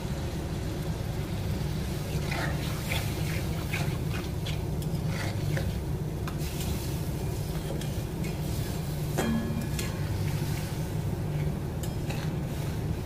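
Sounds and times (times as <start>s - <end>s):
curry bubbling: 0.2s - 13.0s.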